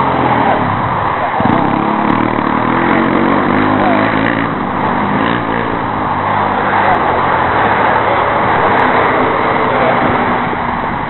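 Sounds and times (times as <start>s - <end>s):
loud rushing noise: 0.0s - 11.0s
vehicle engine running: 0.0s - 11.0s.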